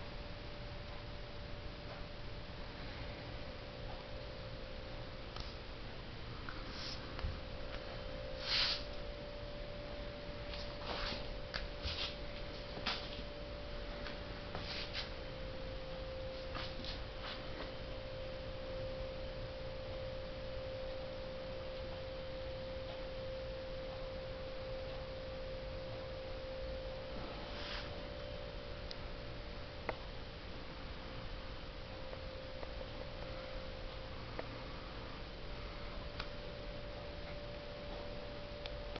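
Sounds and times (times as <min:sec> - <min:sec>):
steady electronic tone: 0:00.0 - 0:38.9.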